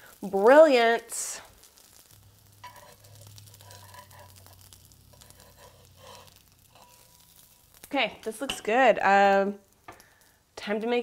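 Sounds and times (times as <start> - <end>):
patty sizzling in oil: 0.0 - 11.0.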